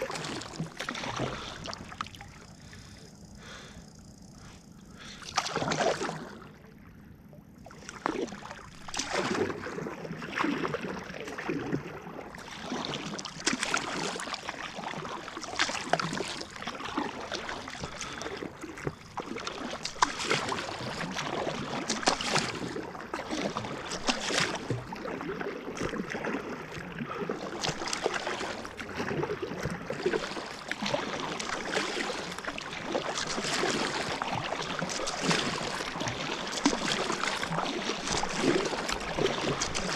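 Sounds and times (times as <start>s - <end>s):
water washing along hull: 0.0s - 7.0s, 7.6s - 39.9s
kayak paddle strokes splashing: 0.0s - 39.9s.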